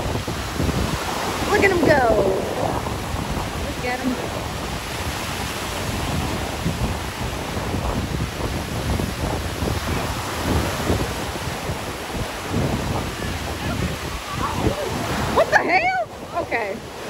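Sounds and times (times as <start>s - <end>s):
ocean surf washing: 0.0s - 17.0s
wind buffeting microphone: 0.0s - 17.0s.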